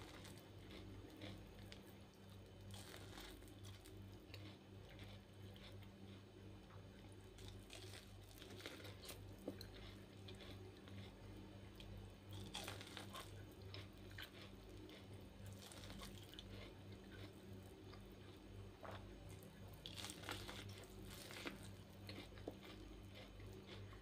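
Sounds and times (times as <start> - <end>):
kernels crunching and popping: 0.0 - 6.1, 6.7 - 11.2, 11.8 - 24.0
chewing corn on the cob: 0.0 - 24.0.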